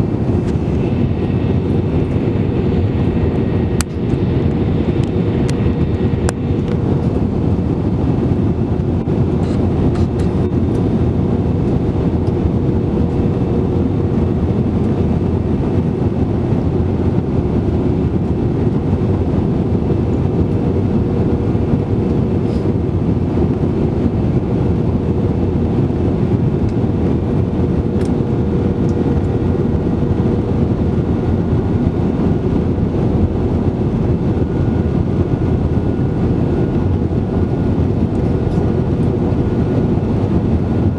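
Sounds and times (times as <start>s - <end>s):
airliner cabin engine roar: 0.0s - 40.9s
constant hum: 0.0s - 40.9s.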